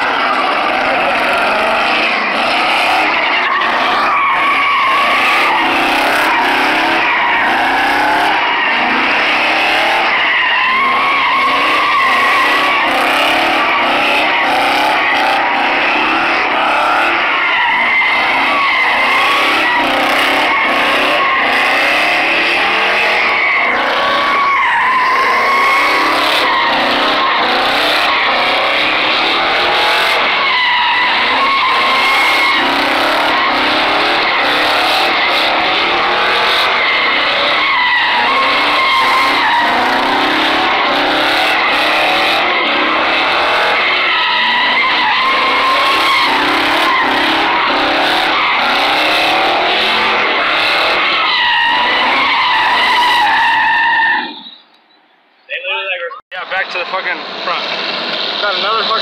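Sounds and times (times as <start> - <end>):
engine revving: 0.0 - 53.3, 56.4 - 59.0
tyres squealing: 0.0 - 56.2.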